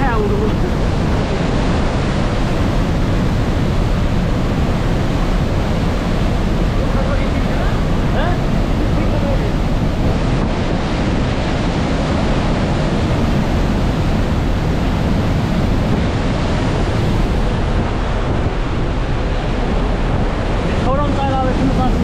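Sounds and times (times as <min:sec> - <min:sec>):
sea waves washing: 0:00.0 - 0:22.0
wind rushing over microphone: 0:00.0 - 0:22.0.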